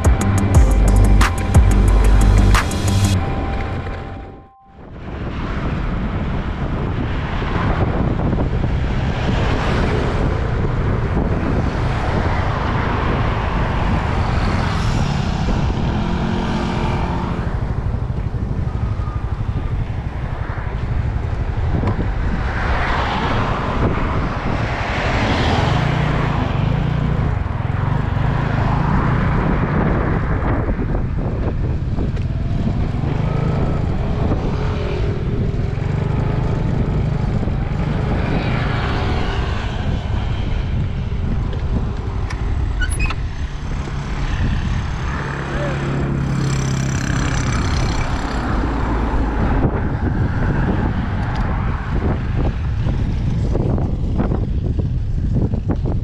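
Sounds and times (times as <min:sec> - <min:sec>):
passing traffic: 0:00.0 - 0:56.0
wind buffeting microphone: 0:04.8 - 0:56.0.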